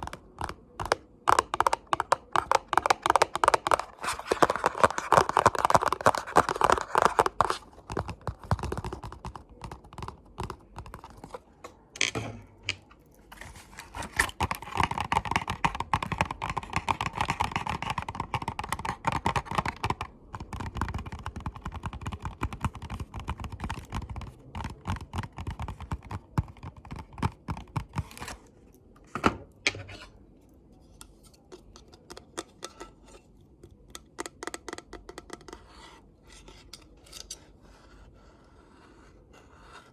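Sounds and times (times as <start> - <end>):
tapping and scratching clicks: 0.0 - 28.4, 31.3 - 35.9.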